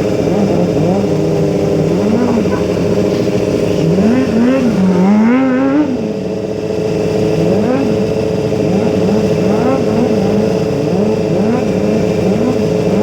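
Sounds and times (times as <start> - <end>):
motorcycle engine revving: 0.0 - 13.0
steady drone: 0.0 - 13.0.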